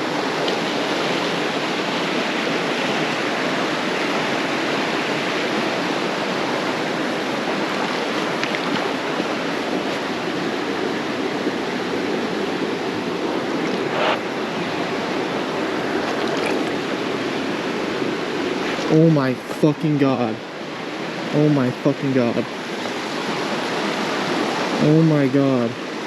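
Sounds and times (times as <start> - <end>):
creek water rushing over rocks: 0.0 - 26.0.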